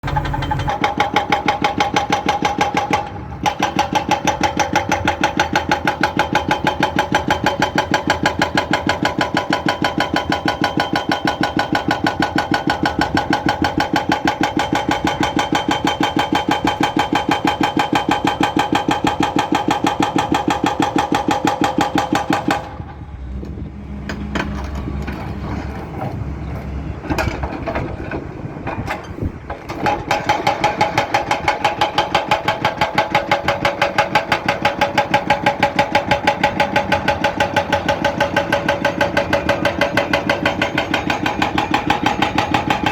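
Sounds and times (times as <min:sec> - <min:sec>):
excavator engine running: 0:00.0 - 0:42.9
hydraulic breaker hammering: 0:00.0 - 0:42.9
scattered knocks: 0:00.0 - 0:42.9.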